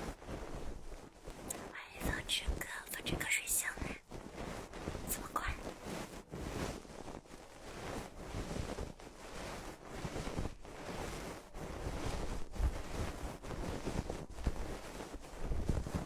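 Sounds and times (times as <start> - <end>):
rubbing against a microphone: 0.0 - 16.0.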